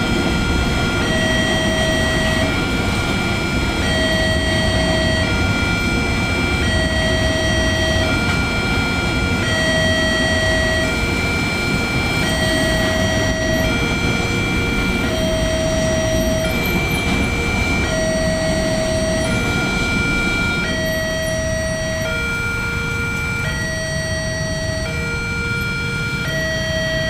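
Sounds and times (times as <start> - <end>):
freight train rumbling: 0.0 - 27.0
two-tone crossing alarm: 0.0 - 27.0.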